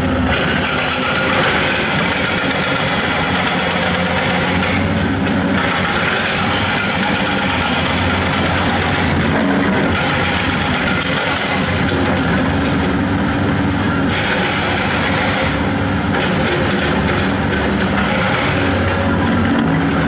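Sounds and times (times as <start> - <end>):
excavator diesel engines humming: 0.0 - 20.0.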